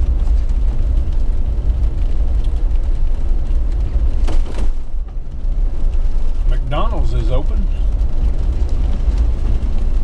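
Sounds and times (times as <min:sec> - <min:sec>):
engine and tyres rumbling: 0:00.0 - 0:10.0.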